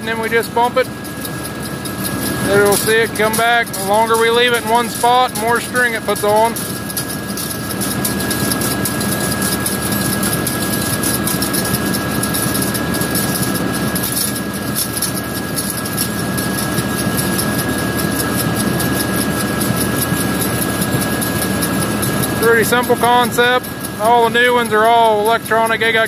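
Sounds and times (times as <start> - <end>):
steady high whine: 0.0 - 26.0
tractor engine running: 0.0 - 26.0.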